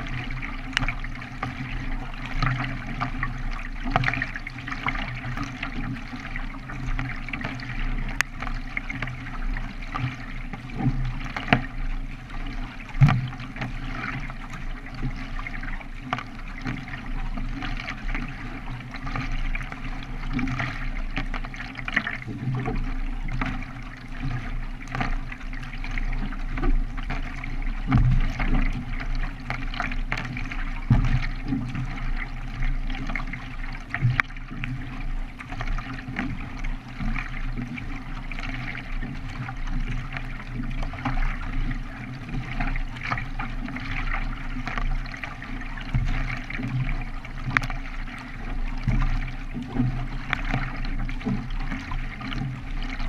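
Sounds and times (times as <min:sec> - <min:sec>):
paddle splashes: 0:00.0 - 0:53.0
water rushing along hull: 0:00.0 - 0:53.0.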